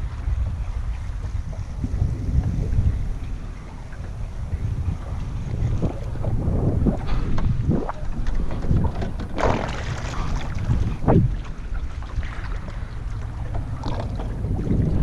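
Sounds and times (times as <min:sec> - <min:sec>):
water lapping against hull: 0:00.0 - 0:15.0
wind buffeting microphone: 0:00.0 - 0:15.0.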